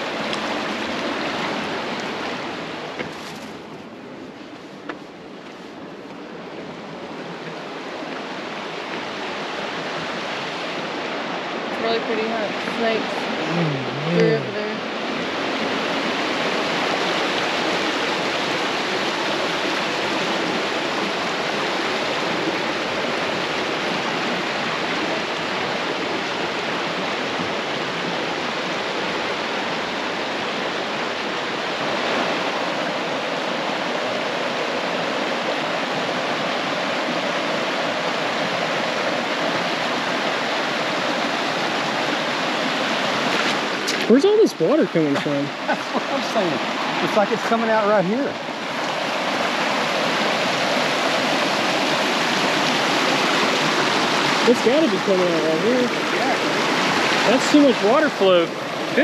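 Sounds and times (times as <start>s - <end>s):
water rushing over rocks: 0.0s - 59.0s.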